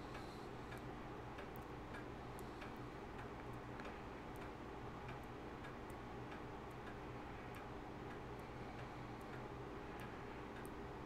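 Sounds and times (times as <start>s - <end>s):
faint regular ticking: 0.1s - 11.0s.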